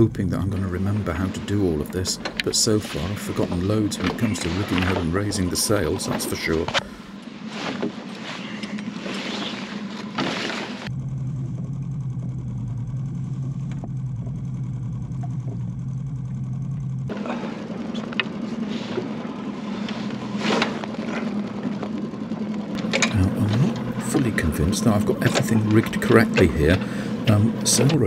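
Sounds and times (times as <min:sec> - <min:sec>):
outboard motor humming: 0:00.0 - 0:28.0
water noise: 0:00.0 - 0:28.0
wind: 0:00.0 - 0:28.0.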